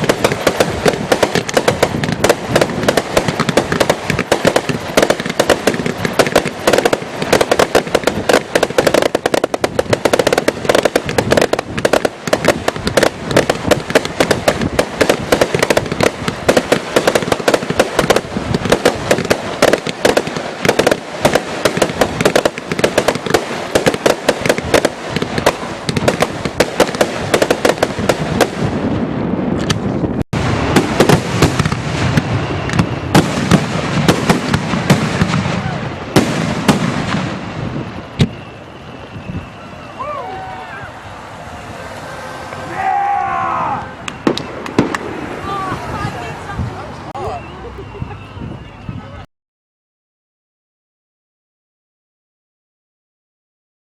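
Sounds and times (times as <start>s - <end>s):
fireworks bangs and crackles: 0.0s - 49.3s
low fireworks rumble: 0.0s - 49.3s.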